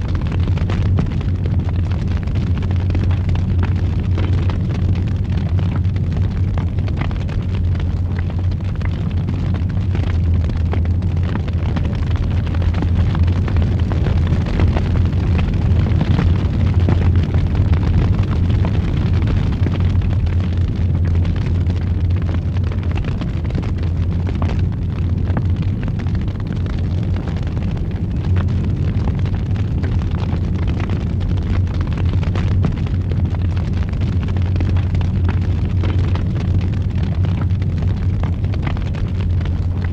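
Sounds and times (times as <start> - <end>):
fire crackling and popping: 0.0 - 39.9
wood fire rumbling: 0.0 - 39.9.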